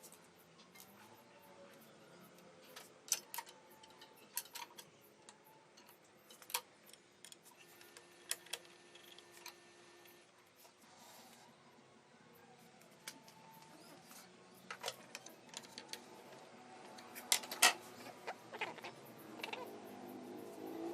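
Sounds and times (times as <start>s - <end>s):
faint room noise: 0.0s - 20.9s.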